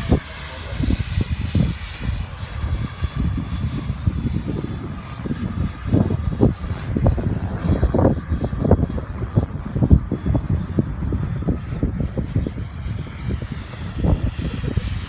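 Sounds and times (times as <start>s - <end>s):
high jet whine: 0.0s - 15.0s
jet rumble with crackling: 0.0s - 15.0s.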